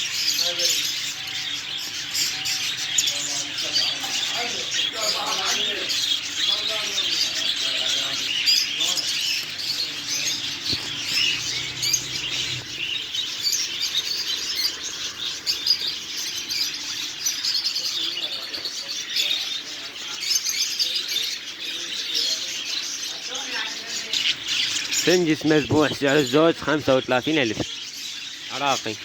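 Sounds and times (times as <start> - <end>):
caged birds chirping: 0.0 - 29.0.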